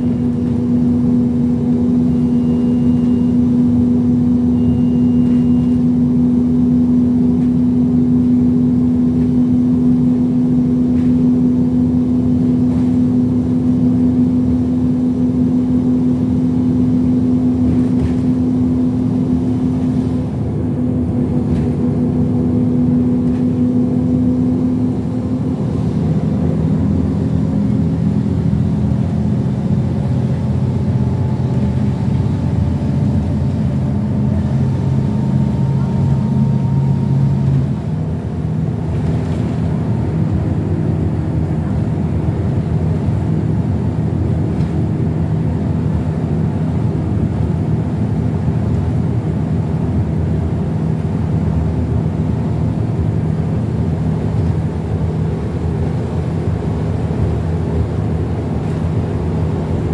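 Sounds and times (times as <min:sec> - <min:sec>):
bus engine and road drone: 0:00.0 - 0:59.9.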